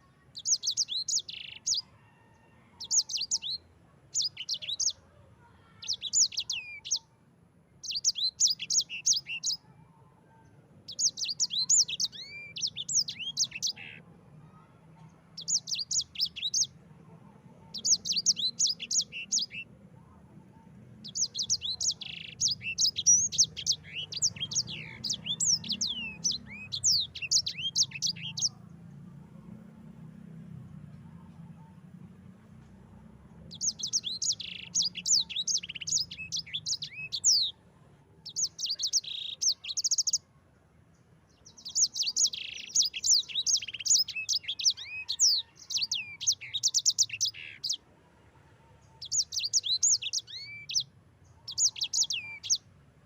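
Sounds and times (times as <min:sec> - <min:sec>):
canary singing: 0:00.0 - 0:07.1, 0:07.8 - 0:14.7, 0:15.3 - 0:19.7, 0:20.5 - 0:29.7, 0:33.3 - 0:37.6, 0:38.2 - 0:40.3, 0:41.3 - 0:47.8, 0:48.9 - 0:52.8.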